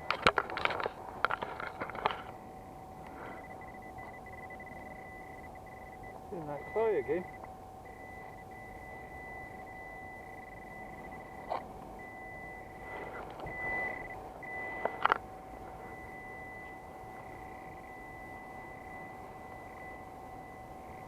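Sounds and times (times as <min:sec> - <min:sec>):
metal detector steady tone: 0:00.0 - 0:21.0
higher electronic tone: 0:02.0 - 0:21.0.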